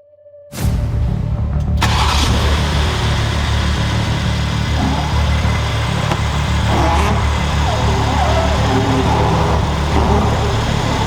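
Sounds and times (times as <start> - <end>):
car engine running: 1.6 - 11.0.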